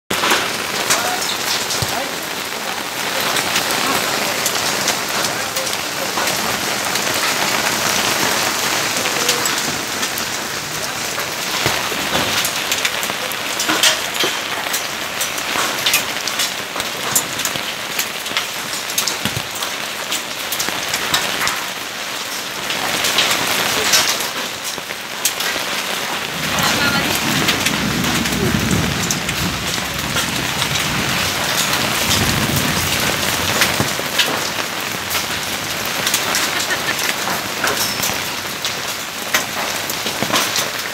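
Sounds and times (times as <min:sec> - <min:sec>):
heavy rain: 0:00.0 - 0:40.9
hailstones clicking: 0:00.1 - 0:40.9.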